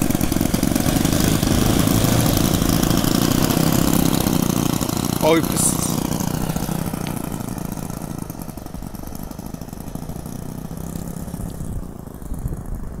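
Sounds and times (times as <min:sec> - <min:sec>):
model airplane engines running: 0:00.0 - 0:13.0.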